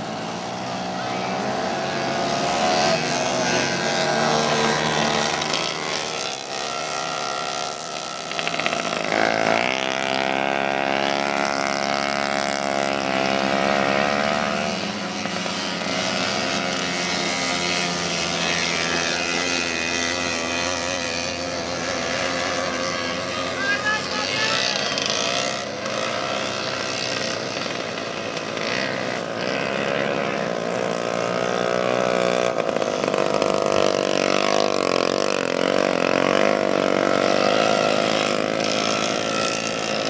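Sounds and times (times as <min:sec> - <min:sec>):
moped engines racing: 0:00.0 - 0:40.0.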